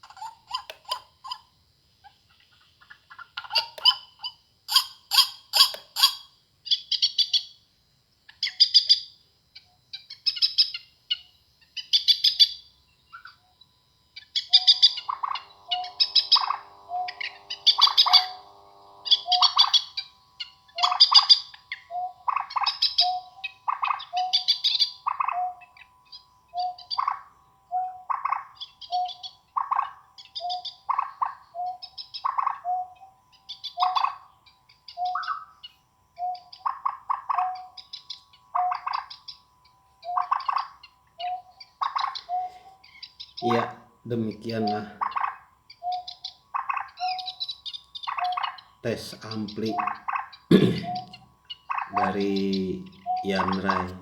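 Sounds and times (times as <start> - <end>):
recorded bird chirps through speaker: 0.0 - 7.6, 8.3 - 54.0.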